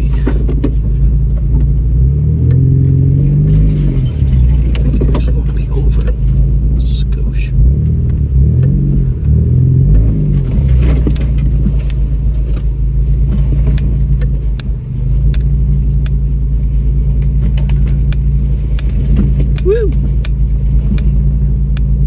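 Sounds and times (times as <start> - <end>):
body and suspension rattling: 0.0 - 22.0
truck engine running at low speed: 0.0 - 22.0.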